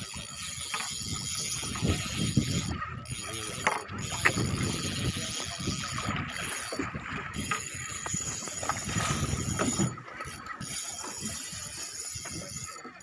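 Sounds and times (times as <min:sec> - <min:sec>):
waves slapping boat hull: 0:00.0 - 0:13.0
wind buffeting microphone: 0:00.9 - 0:12.7.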